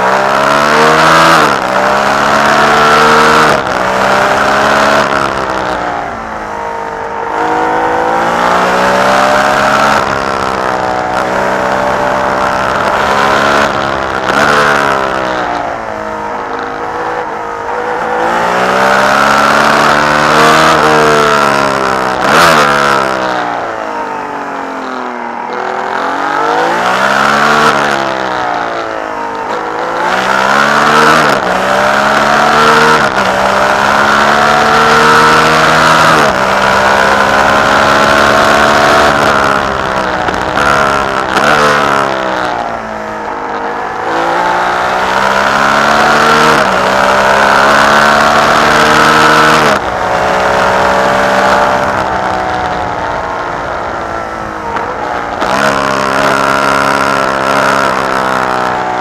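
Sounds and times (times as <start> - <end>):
racing engine revving: 0.0 - 59.0.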